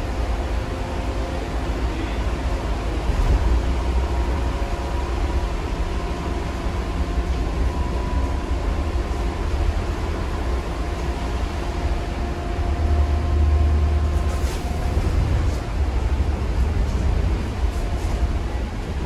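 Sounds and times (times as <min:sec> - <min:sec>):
bus road rumble: 0:00.0 - 0:19.0
faint steady whine: 0:00.0 - 0:19.0.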